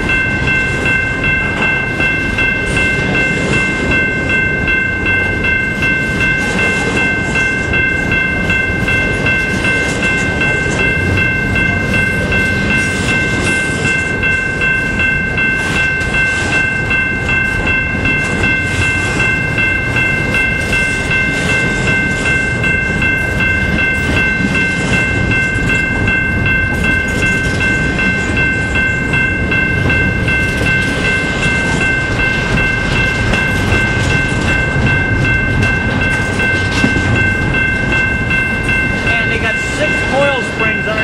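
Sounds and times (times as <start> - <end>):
steel wheels rumbling on rail: 0.0 - 41.0.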